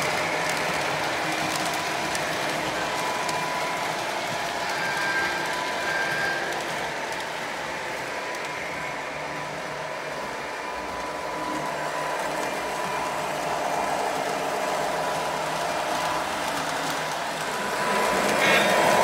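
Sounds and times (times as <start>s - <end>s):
model train wheels and motors whirring: 0.0s - 19.0s.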